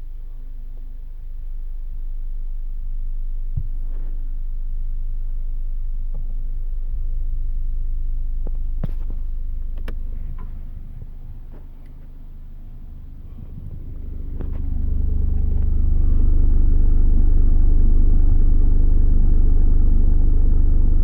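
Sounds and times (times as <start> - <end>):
subwoofer low bass tone: 0.0 - 21.0.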